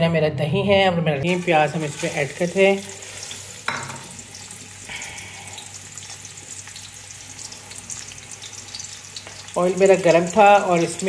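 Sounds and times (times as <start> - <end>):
onions sizzling in hot oil: 1.3 - 11.0.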